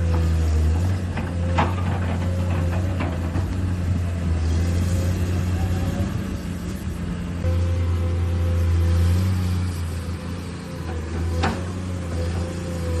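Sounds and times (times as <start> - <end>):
low engine-like drone: 0.8 - 13.0.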